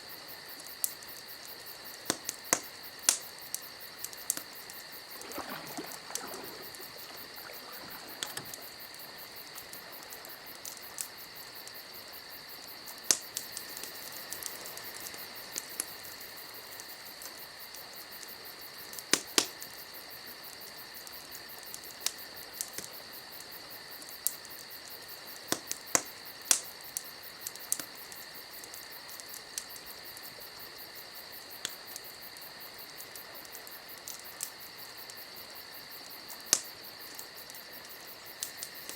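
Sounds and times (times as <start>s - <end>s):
steady high-pitched hiss: 0.0s - 38.9s
campfire crackling: 0.1s - 38.9s.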